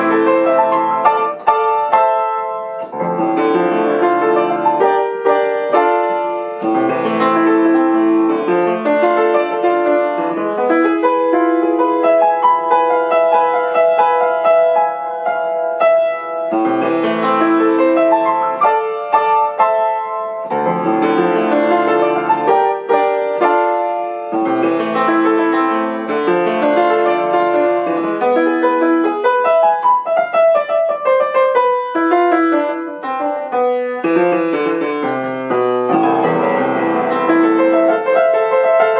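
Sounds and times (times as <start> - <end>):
solo piano piece: 0.0 - 38.9.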